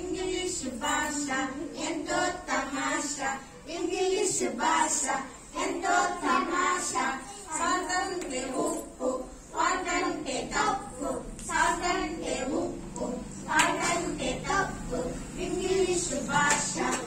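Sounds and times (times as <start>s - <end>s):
girls singing together: 0.0s - 17.0s.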